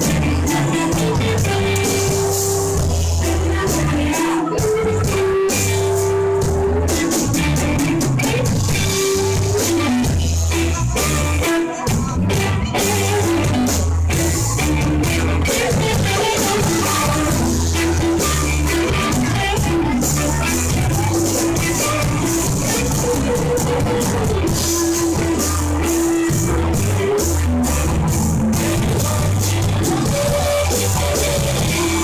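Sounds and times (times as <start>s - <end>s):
bass line: 0.0s - 32.0s
drum kit: 0.0s - 32.0s
electric guitar: 0.0s - 32.0s
keyboards: 0.0s - 32.0s.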